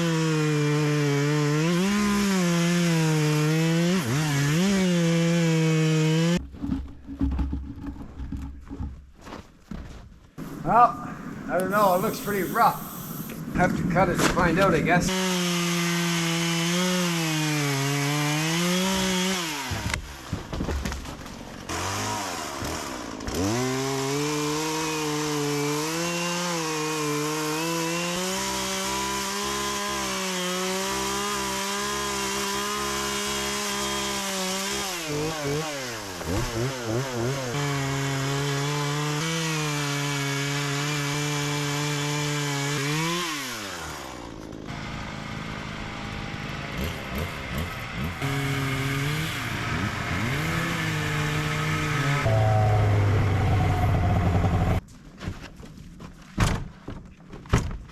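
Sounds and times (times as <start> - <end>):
chainsaw cutting into tree: 0.0 - 6.4, 10.4 - 13.5, 14.3 - 54.8.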